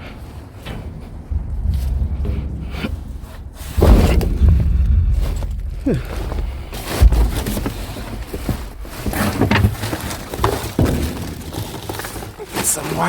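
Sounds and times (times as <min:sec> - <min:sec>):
heavy thump: 0:00.0 - 0:12.4
junk knocking and clattering: 0:00.0 - 0:13.0.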